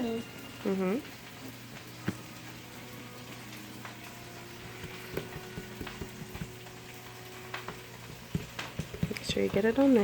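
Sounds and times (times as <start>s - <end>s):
oil sizzling in a frying pan: 0.0s - 10.0s.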